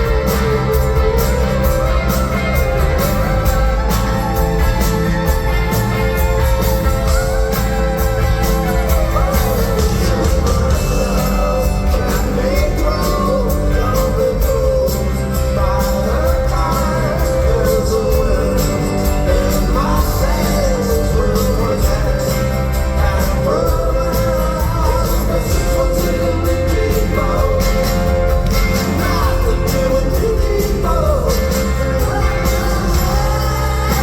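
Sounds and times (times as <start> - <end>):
live rock band playing: 0.0 - 34.0
person singing: 0.0 - 34.0.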